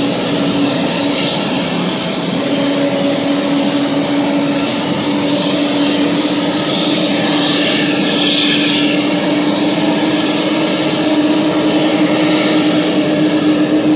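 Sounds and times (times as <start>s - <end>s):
jet engines roaring: 0.0s - 13.9s.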